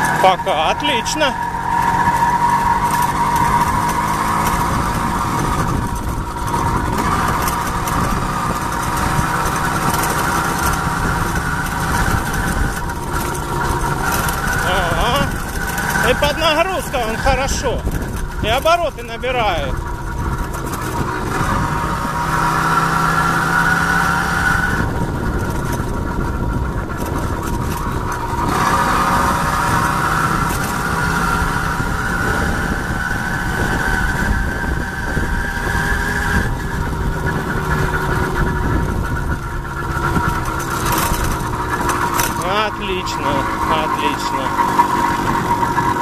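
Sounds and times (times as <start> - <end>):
moped engine revving: 0.0 - 46.0.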